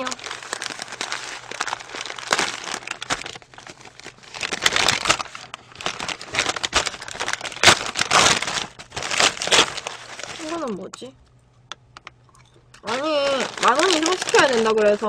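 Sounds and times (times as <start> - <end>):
paper bags crinkling: 0.0 - 11.0, 12.8 - 15.0.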